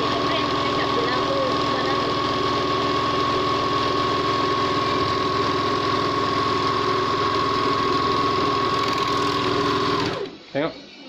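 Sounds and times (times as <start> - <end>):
overlock machine running: 0.0 - 10.4.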